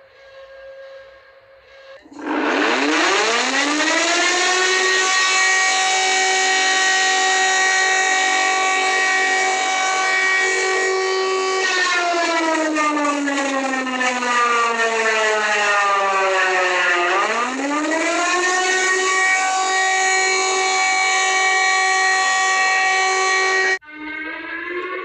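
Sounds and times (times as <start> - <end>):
alarm siren wailing: 0.0 - 25.0.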